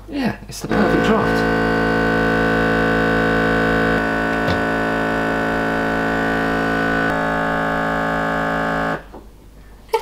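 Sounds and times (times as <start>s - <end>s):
sustained chords music: 0.7s - 9.0s.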